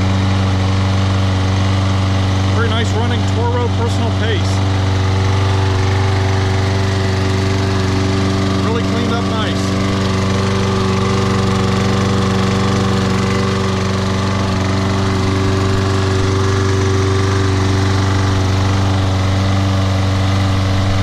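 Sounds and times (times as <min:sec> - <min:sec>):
lawn mower engine running: 0:00.0 - 0:21.0.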